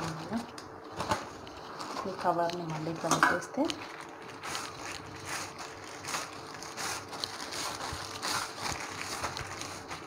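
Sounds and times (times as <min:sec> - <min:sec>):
plastic sheet rustling: 0:00.0 - 0:10.0.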